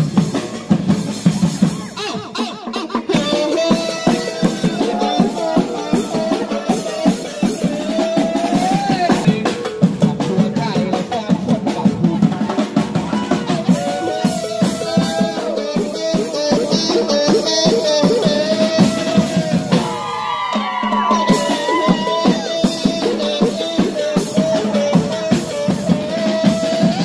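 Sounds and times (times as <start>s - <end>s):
snare and bass drums: 0.0s - 27.0s
man singing into microphone: 2.0s - 20.0s, 21.0s - 27.0s.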